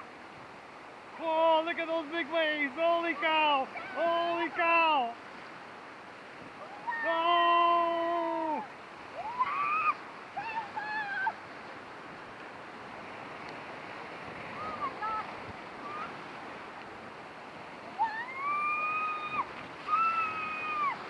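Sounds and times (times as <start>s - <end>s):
whitewater rapids rushing: 0.0s - 21.0s.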